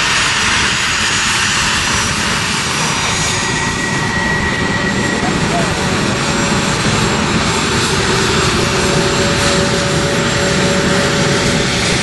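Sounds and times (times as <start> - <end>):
jet engine whine: 0.0 - 12.0
jet engines rushing: 0.0 - 12.0.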